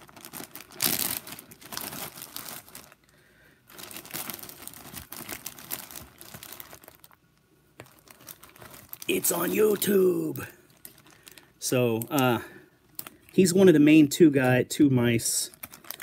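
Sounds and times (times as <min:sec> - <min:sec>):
plastic bag crinkling: 0:00.0 - 0:13.6, 0:15.4 - 0:16.0.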